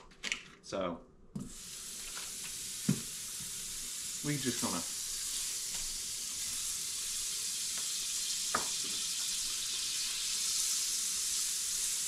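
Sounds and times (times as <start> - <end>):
butter sizzling in a skillet: 1.4 - 12.0.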